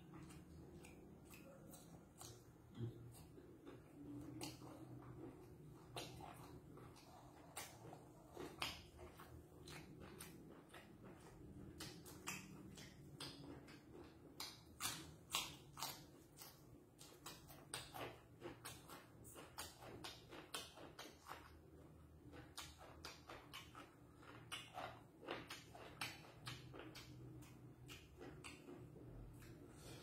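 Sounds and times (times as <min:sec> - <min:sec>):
wet mouth chewing clicks and smacks: 0:00.0 - 0:29.8.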